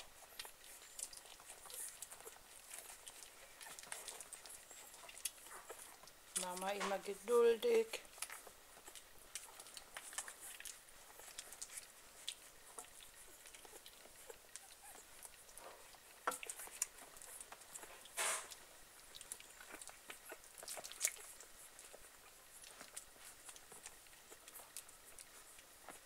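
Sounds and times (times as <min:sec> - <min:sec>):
puppies suckling: 0:00.0 - 0:26.0.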